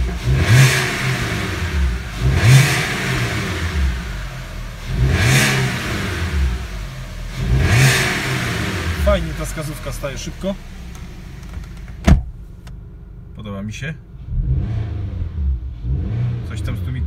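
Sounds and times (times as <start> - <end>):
car engine revving: 0.0 - 13.4, 14.0 - 17.0.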